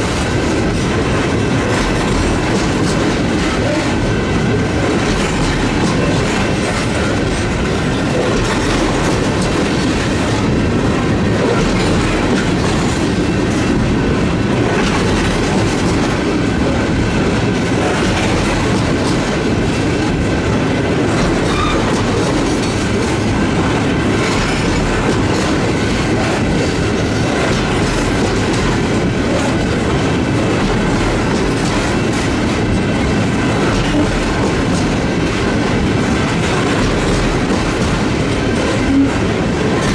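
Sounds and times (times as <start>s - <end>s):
train wheels rumbling on rail: 0.0s - 39.9s
wheels clacking over rail joints: 0.0s - 39.9s.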